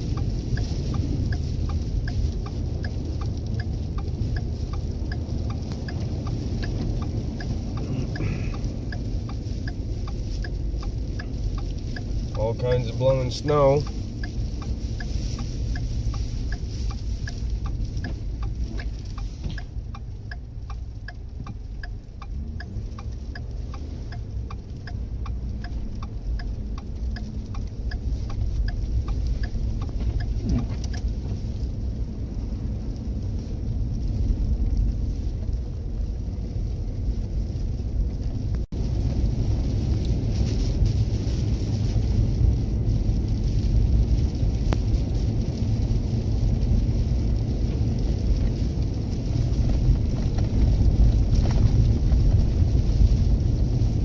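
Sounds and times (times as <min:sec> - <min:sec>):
truck road and engine rumble: 0:00.0 - 0:54.0.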